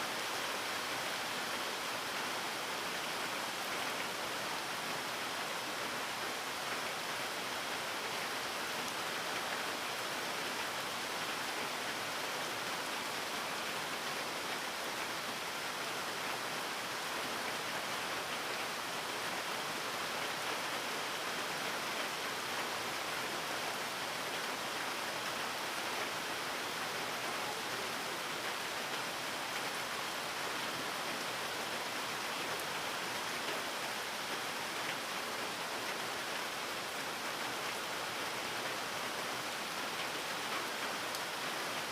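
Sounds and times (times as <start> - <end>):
rain falling steadily: 0.0 - 41.9.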